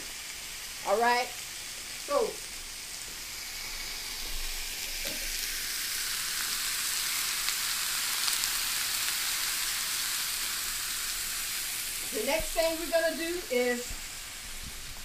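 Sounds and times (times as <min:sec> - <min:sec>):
pork chops sizzling on grill: 0:00.0 - 0:15.0.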